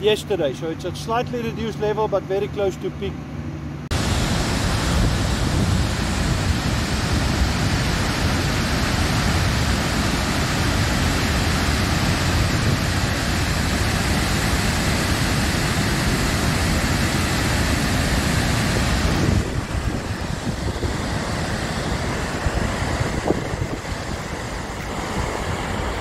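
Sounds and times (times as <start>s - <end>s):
loud rush of falling water: 3.9s - 26.0s.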